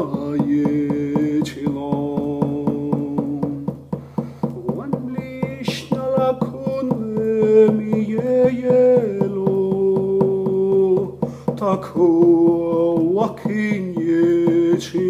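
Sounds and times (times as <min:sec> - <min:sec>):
person singing long notes: 0:00.0 - 0:03.7, 0:04.6 - 0:15.0
steady drum beat: 0:00.0 - 0:15.0.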